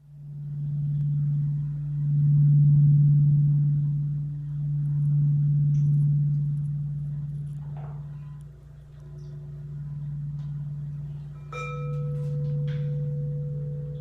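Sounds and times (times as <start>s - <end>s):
singing bowl humming: 0.0s - 14.0s.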